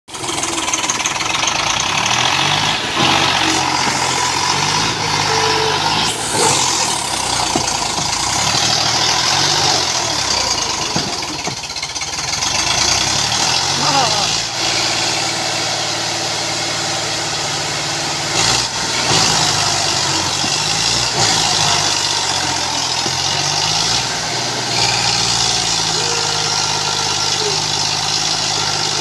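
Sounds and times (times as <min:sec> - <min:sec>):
tractor diesel engine labouring: 0:00.0 - 0:29.0.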